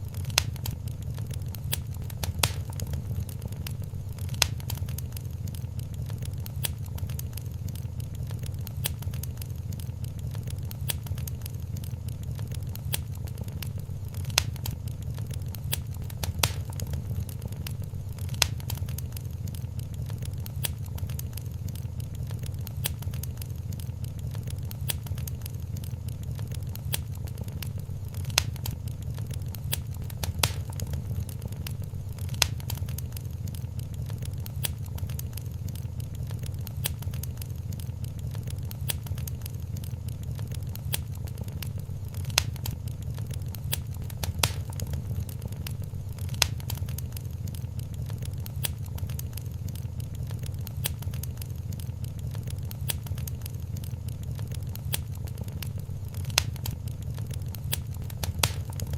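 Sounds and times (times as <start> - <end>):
fire popping: 0.0 - 58.9
low rumble of flames: 0.0 - 58.9
wood fire crackling: 0.0 - 58.9.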